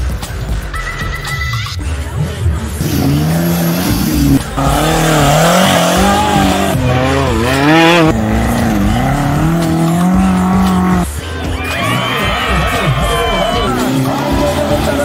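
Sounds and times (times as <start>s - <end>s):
buggy engines revving: 2.2s - 15.0s.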